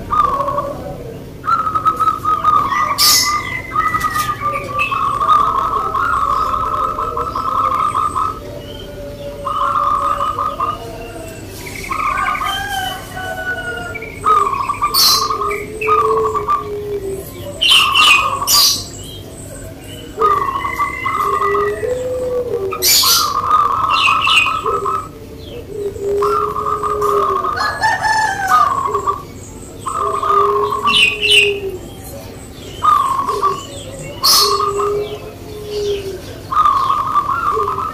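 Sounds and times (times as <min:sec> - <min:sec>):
doves cooing: 0:00.0 - 0:37.9
small birds chirping: 0:00.0 - 0:37.9.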